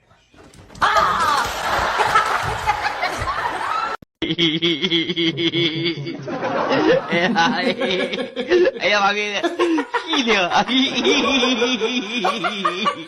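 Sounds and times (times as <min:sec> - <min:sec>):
people laughing: 0:00.8 - 0:13.0.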